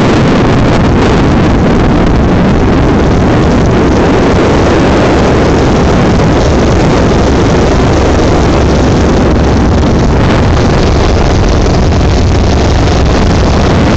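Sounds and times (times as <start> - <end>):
jet boat engine running: 0.0 - 13.9
wind buffeting microphone: 0.0 - 13.9.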